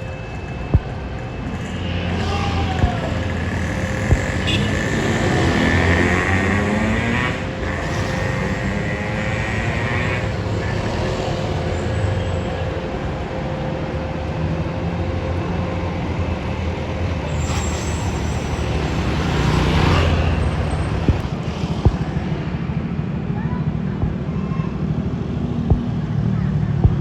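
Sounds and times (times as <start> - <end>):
bus engine rumbling: 0.0 - 23.6.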